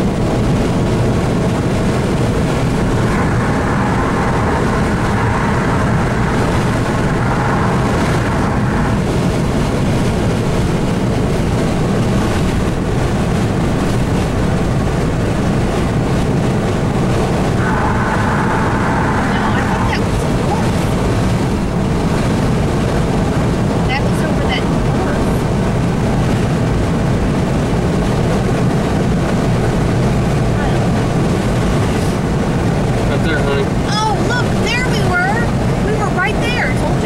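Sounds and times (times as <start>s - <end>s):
car cabin road noise: 0.0s - 37.0s.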